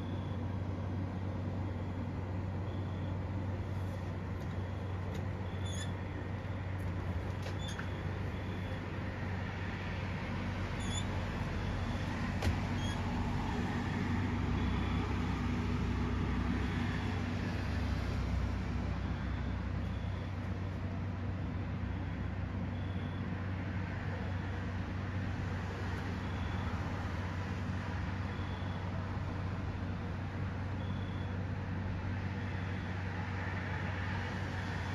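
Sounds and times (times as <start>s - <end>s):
constant low hum: 0.0s - 34.9s
low outdoor rumble: 0.0s - 34.9s.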